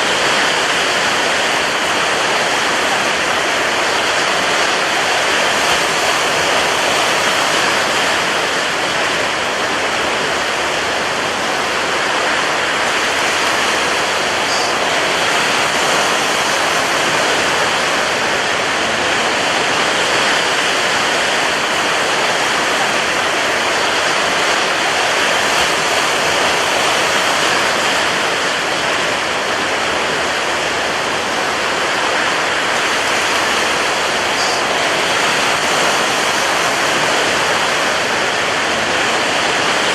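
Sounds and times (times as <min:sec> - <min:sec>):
rough sea surf: 0:00.0 - 0:39.9.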